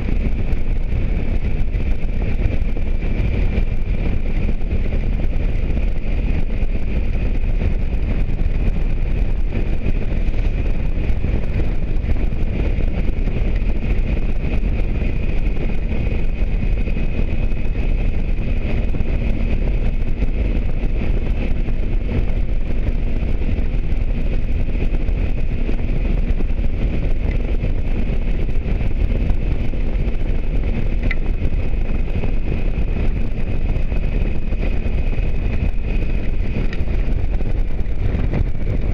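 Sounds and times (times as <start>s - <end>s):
motorcycle engine rumble: 0.0s - 38.9s
thin steady whine: 0.0s - 38.9s.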